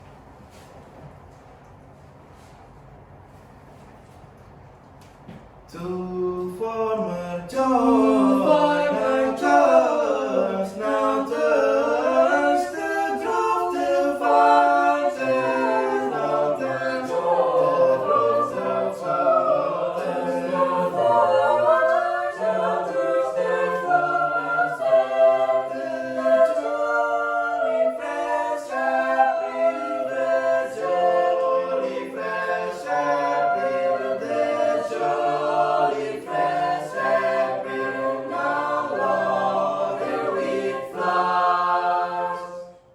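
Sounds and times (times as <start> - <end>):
a cappella choir singing: 5.7 - 42.9.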